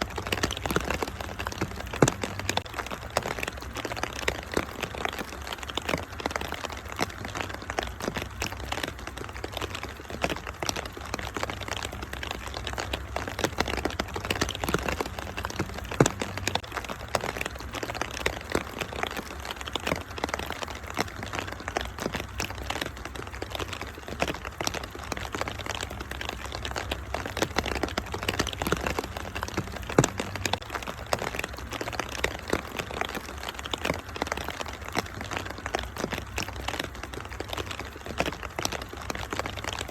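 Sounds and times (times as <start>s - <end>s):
rain hissing: 0.0s - 39.9s
wood fire crackling and popping: 0.0s - 39.9s.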